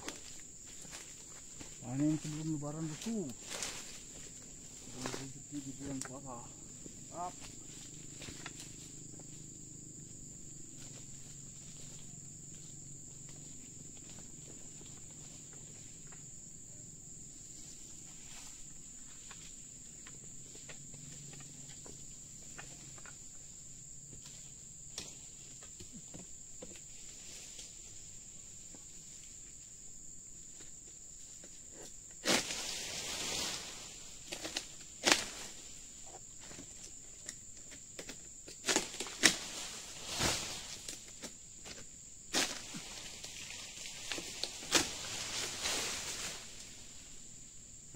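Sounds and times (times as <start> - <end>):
high-pitched insect drone: 0.0 - 47.9.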